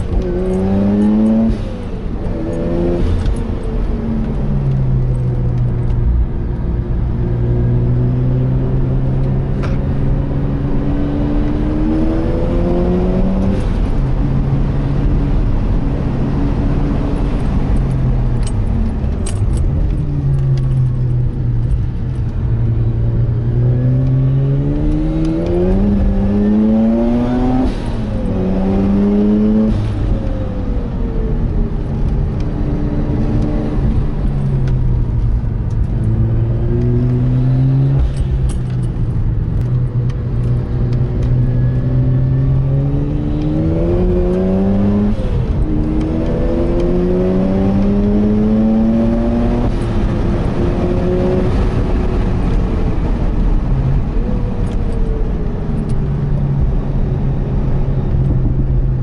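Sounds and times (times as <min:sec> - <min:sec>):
rotary engine accelerating: 0:00.0 - 0:59.0
tyre and road noise: 0:00.0 - 0:59.0.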